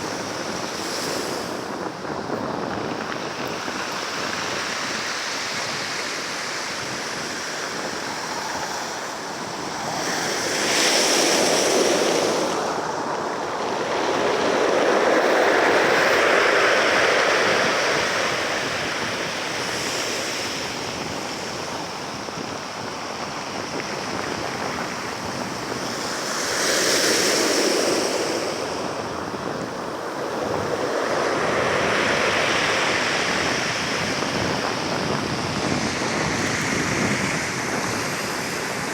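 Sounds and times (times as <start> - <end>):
sea waves washing: 0.0 - 38.9.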